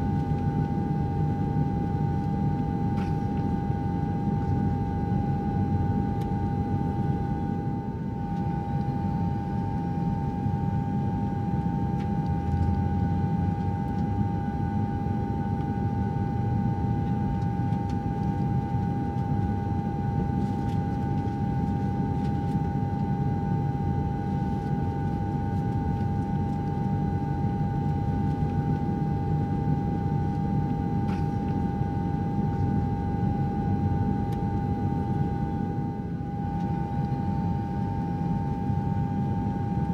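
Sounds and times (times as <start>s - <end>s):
jet airliner cabin rumble: 0.0s - 39.9s
mid-pitched hum: 0.0s - 39.9s.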